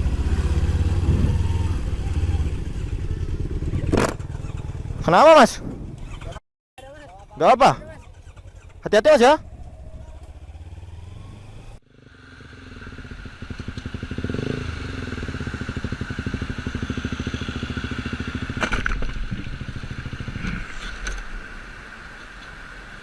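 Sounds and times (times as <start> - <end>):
motorcycle engine running: 0.0 - 21.0
quiet road noise: 0.0 - 23.0.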